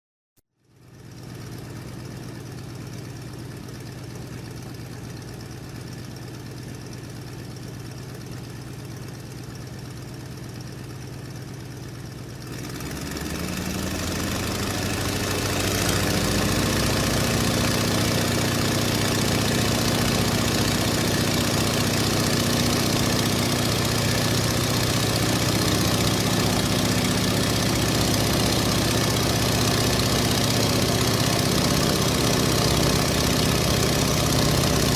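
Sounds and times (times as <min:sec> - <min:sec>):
biplane radial engine: 0:01.1 - 0:34.9.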